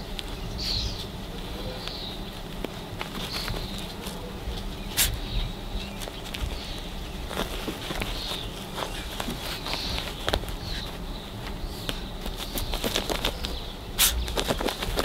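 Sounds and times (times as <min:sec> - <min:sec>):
puppies scuffling on concrete: 0:00.0 - 0:15.0
paws and claws clicking: 0:00.1 - 0:15.0.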